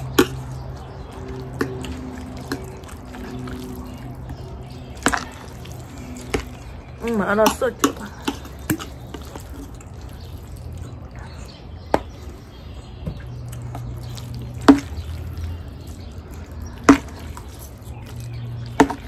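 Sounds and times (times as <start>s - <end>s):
wet noodle-eating mouth sounds: 0.0s - 7.0s, 7.8s - 19.0s.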